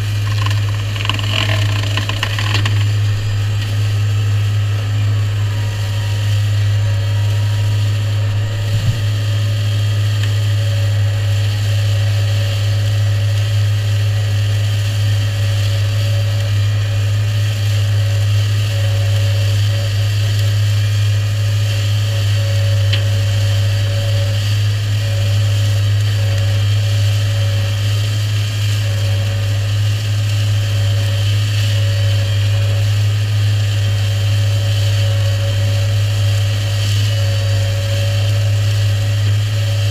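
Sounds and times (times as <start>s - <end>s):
tractor and flail mower running: 0.0s - 39.9s.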